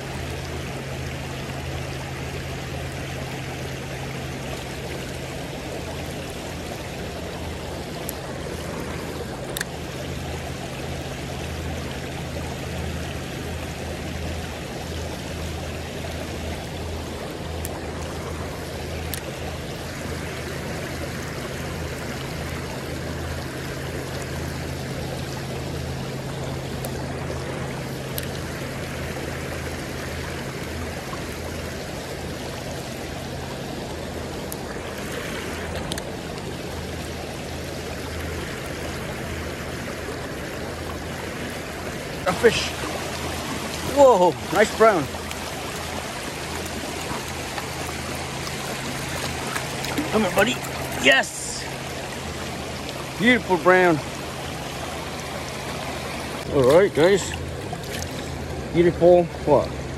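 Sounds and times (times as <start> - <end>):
creek water rushing over stones: 0.0 - 59.9.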